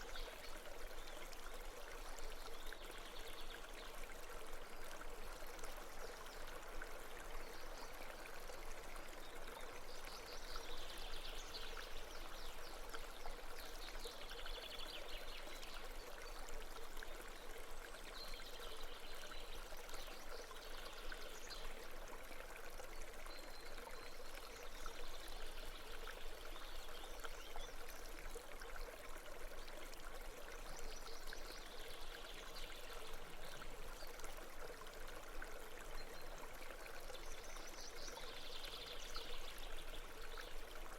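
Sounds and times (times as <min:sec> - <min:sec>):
brook flowing: 0:00.0 - 0:40.9.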